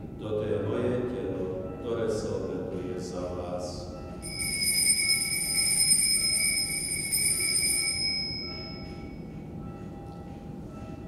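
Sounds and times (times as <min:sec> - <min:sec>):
altar bell ringing: 0:01.7 - 0:11.0.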